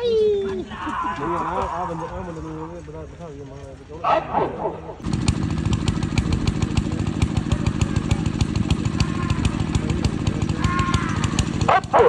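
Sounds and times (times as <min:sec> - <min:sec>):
vehicle engine running: 0:02.2 - 0:12.0.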